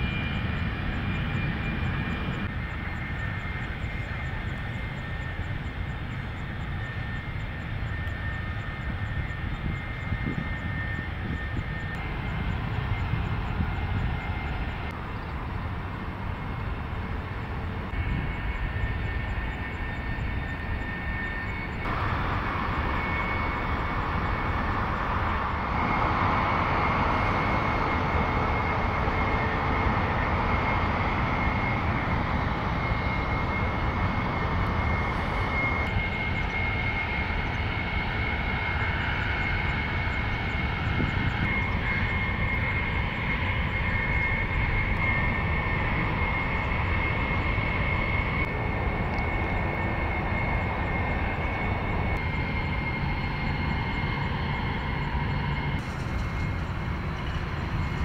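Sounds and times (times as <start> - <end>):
high jet whine: 0.0 - 58.0
jet engines rumbling: 0.0 - 58.0.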